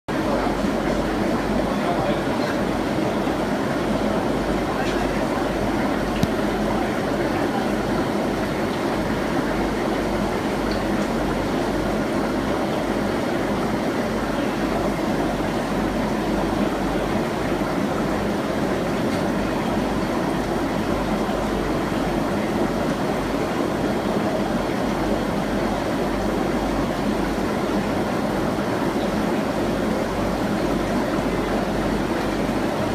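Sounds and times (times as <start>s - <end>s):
aquarium pumps humming: 0.1s - 32.9s.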